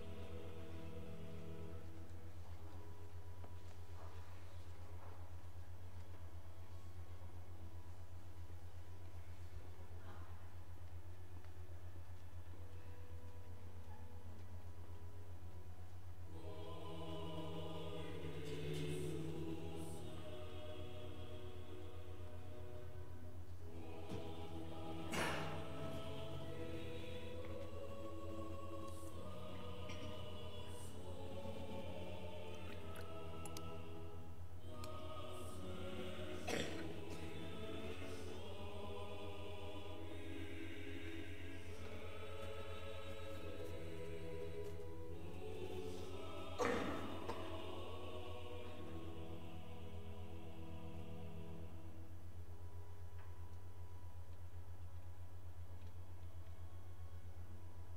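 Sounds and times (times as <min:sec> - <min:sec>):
choir singing a hymn: 0:00.0 - 0:10.6, 0:16.2 - 0:54.1
low electrical hum: 0:00.0 - 0:57.9.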